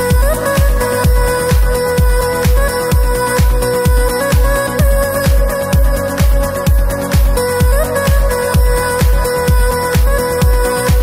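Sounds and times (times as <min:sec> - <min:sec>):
electronic dance music: 0:00.0 - 0:11.0
kick drum beat: 0:00.0 - 0:11.0.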